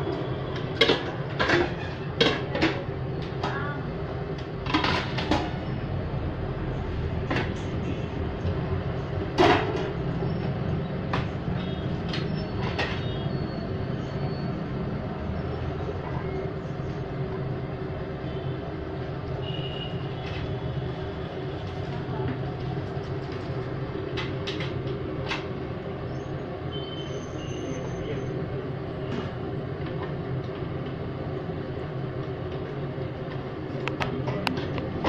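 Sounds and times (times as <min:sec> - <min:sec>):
constant hum: 0:00.0 - 0:35.0
low mechanical rumble: 0:00.0 - 0:35.0.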